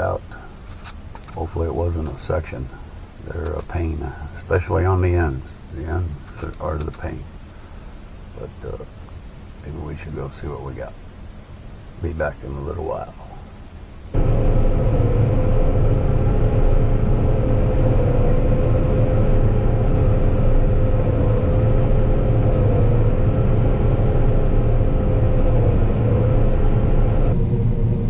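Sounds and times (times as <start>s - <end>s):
combine harvester engine rumble: 0.0s - 28.0s
mechanical whine: 0.0s - 28.0s.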